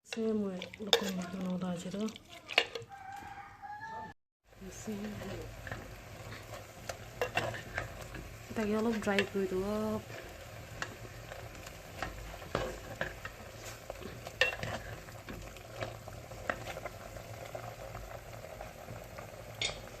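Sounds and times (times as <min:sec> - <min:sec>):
utensil scraping and knocking pot: 0:00.1 - 0:03.4, 0:04.6 - 0:20.0
food sizzling in a pot: 0:00.1 - 0:03.8, 0:04.4 - 0:20.0.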